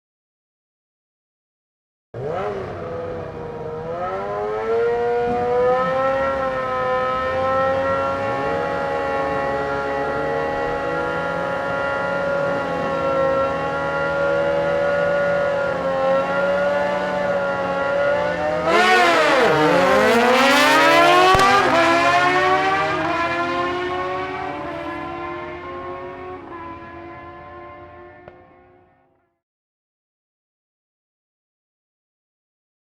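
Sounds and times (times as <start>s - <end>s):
racing motorcycle engines: 2.2s - 29.0s.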